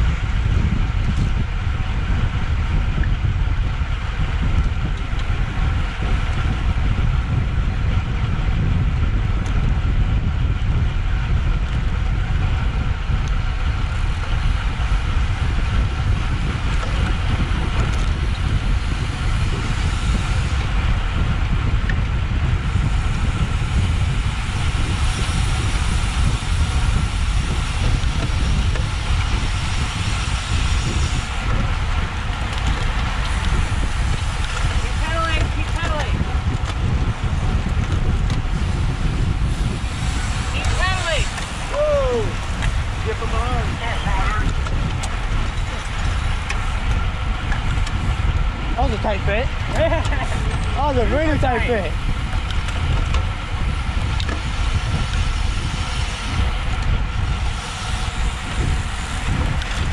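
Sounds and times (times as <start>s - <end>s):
road and tyre noise: 0.0s - 59.9s
wind buffeting microphone: 0.0s - 59.9s.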